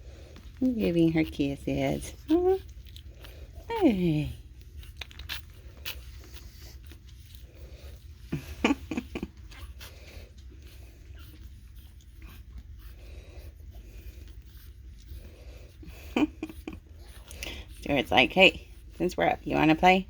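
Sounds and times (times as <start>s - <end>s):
low steady hum: 0.0s - 20.0s
puppies snuffling and grunting: 0.0s - 20.0s.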